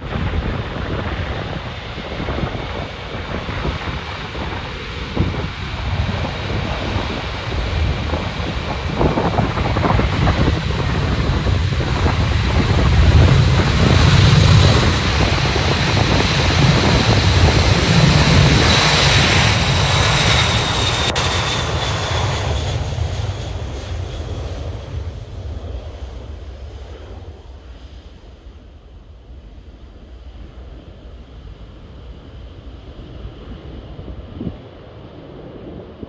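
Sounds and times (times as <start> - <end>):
jet engines at high thrust: 0.0 - 36.0.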